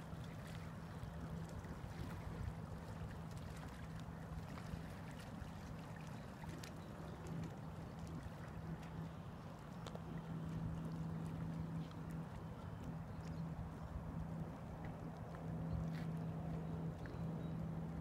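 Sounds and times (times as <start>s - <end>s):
faint low engine hum: 0.0s - 18.0s
water noise: 0.0s - 18.0s.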